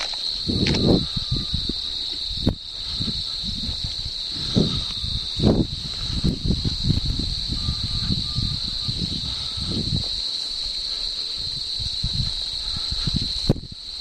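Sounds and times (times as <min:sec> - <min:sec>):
rustling footsteps: 0:00.0 - 0:13.6
crickets chirping: 0:00.0 - 0:14.0.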